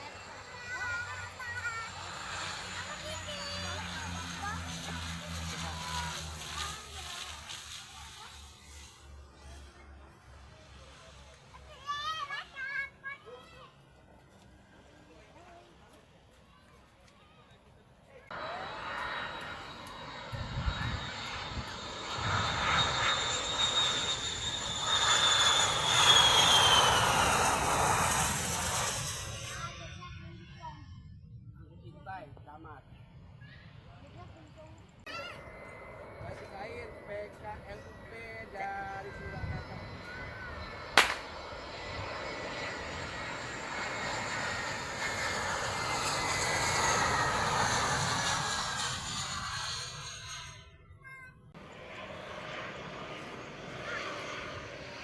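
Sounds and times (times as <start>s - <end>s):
airliner engine roar: 0.0s - 13.2s, 18.2s - 55.0s
jet engine whine: 0.0s - 13.2s, 18.3s - 55.0s.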